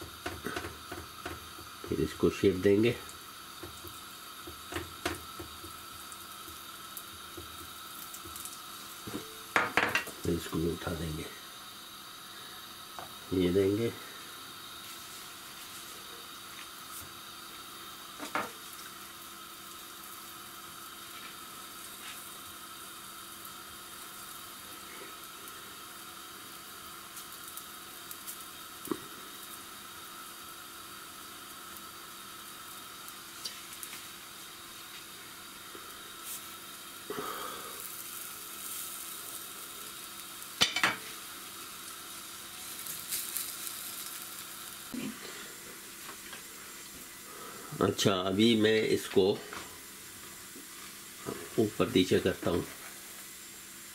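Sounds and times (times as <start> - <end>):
dough sizzling in frying pan: 0.0 - 53.9.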